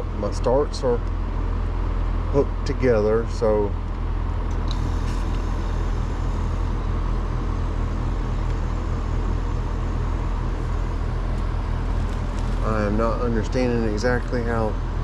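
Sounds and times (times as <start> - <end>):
air conditioner unit running: 0.0 - 15.0.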